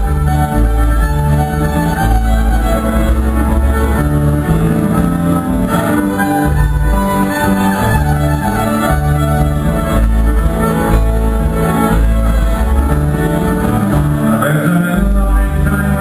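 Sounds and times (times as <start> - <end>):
fiddle playing: 0.0 - 16.0
guitar playing: 0.0 - 16.0
strong bass notes: 0.0 - 16.0.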